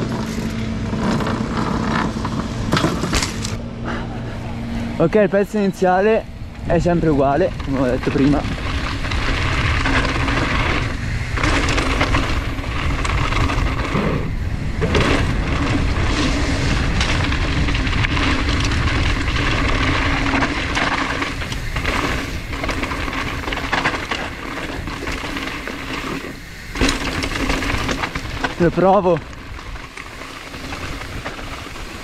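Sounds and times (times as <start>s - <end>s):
mountain bike rolling downhill: 0.0s - 32.0s.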